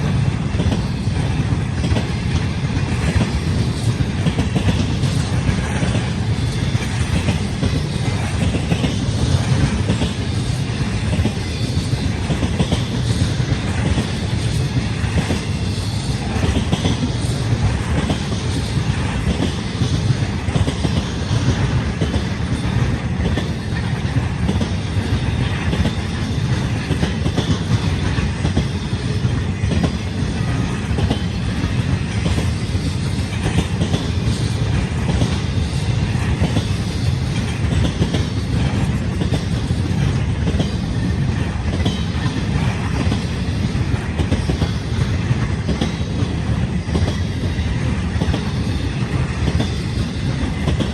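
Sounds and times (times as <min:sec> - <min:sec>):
freight train rumbling past: 0:00.0 - 0:50.9.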